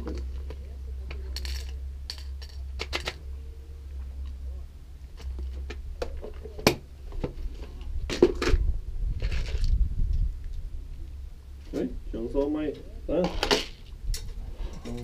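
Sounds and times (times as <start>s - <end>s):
rubbing and rumbling handling noise: 0.0s - 15.0s.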